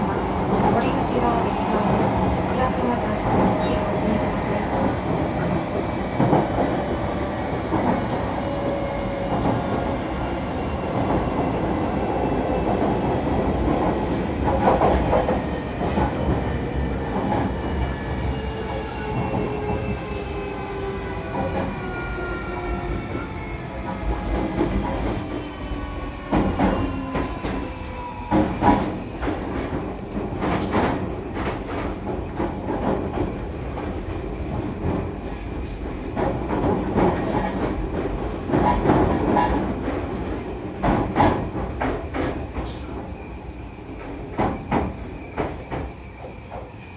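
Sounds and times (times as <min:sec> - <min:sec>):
rumble of wheels on rail: 0:00.0 - 0:46.9.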